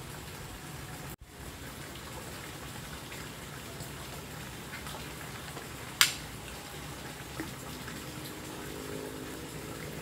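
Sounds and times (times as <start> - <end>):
steady watery hiss: 0.0 - 10.0.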